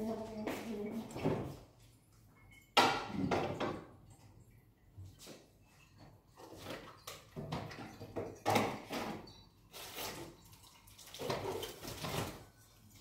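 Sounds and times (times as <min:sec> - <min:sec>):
household cleaning noises: 0:00.0 - 0:02.3, 0:03.0 - 0:13.0.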